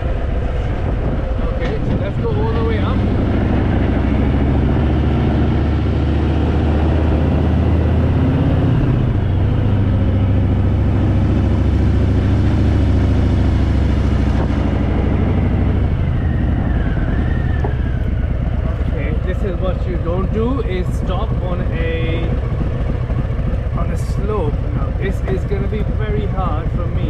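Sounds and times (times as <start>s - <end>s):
motorcycle engine under load: 0.0s - 27.0s.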